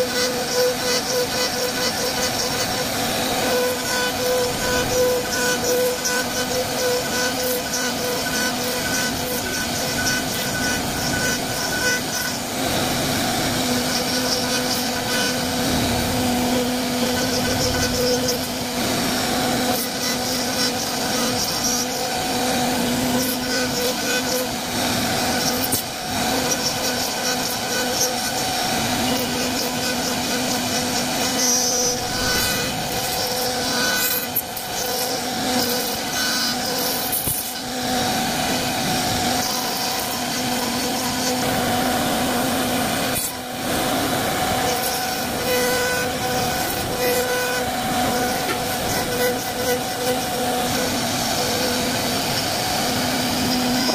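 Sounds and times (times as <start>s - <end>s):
router machine hum and cutting: 0.0s - 53.9s.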